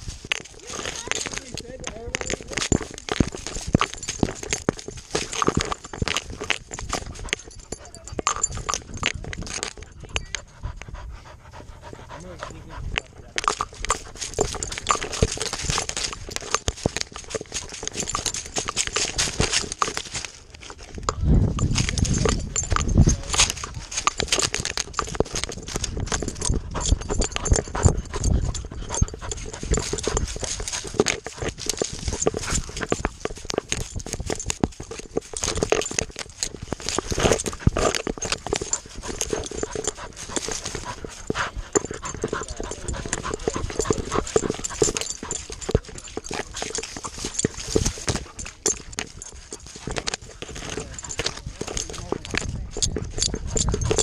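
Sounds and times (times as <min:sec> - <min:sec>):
dog footfalls running: 0:00.0 - 0:11.0, 0:11.8 - 0:54.0
dry stalks crackling and scraping: 0:00.0 - 0:54.0.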